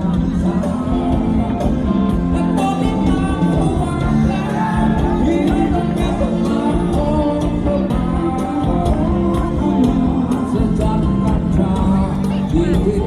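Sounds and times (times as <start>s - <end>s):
drum beat: 0.0s - 13.0s
live rock band playing: 0.0s - 13.0s
person singing: 0.0s - 13.0s.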